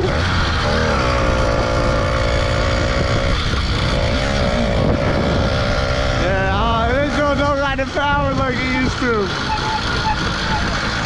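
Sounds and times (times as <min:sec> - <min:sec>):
motorbike engine revving: 0:00.0 - 0:11.0
wind rumble on microphone: 0:00.0 - 0:11.0.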